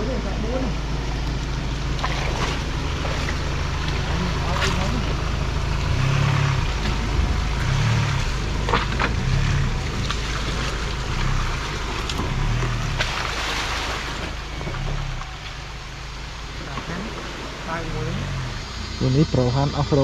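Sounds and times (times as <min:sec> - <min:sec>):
pickup truck engine rumble: 0:00.0 - 0:20.0.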